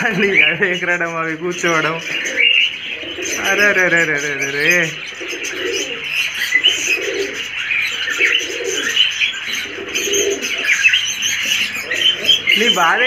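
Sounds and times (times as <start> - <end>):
pigeons cooing: 0.0 - 13.0
small birds chirping: 0.0 - 13.0.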